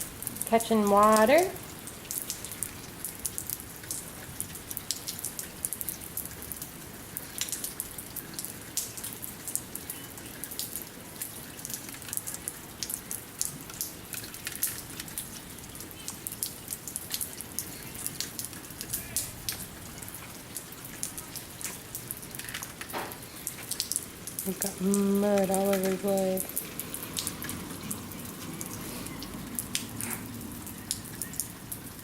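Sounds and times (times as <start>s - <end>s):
steady low rain hiss: 0.0s - 32.0s.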